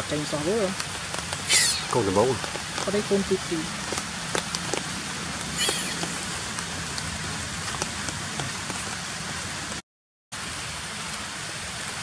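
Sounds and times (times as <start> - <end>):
rain-like hiss: 0.0 - 12.0.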